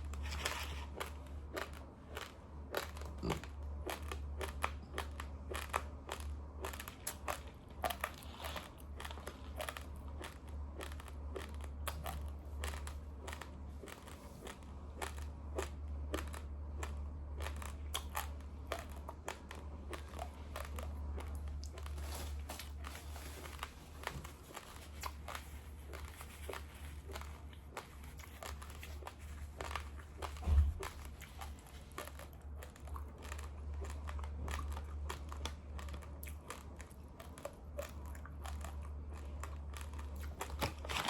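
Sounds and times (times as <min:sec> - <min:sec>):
dry rice being crunched and chewed: 0:00.0 - 0:41.0
steady low hum: 0:00.0 - 0:41.0.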